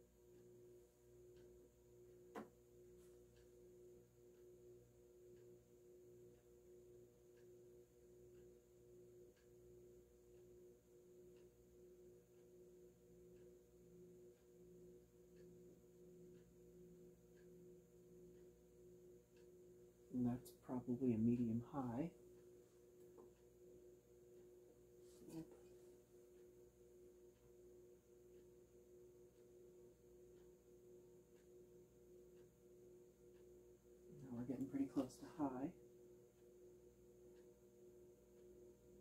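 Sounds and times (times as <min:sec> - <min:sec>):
ceiling fan motor hum: 0:00.0 - 0:39.0
faint ticking: 0:00.0 - 0:39.0.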